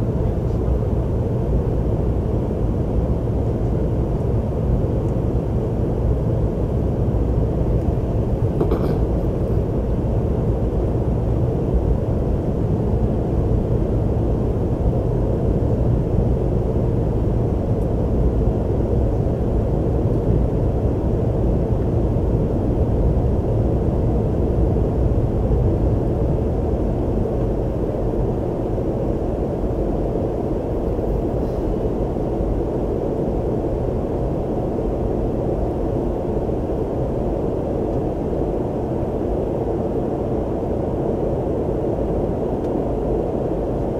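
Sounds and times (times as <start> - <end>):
airliner cabin engine noise: 0.0 - 43.9.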